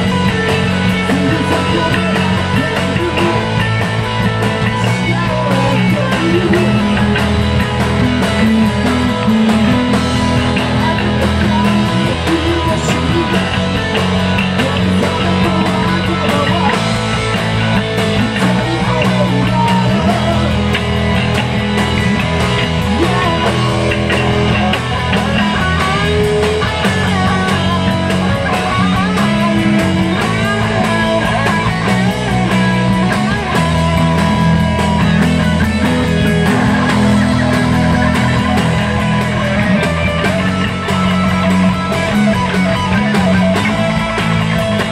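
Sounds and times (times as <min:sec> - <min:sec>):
bass guitar: 0:00.0 - 0:44.9
drums: 0:00.0 - 0:44.9
electric guitar: 0:00.0 - 0:44.9.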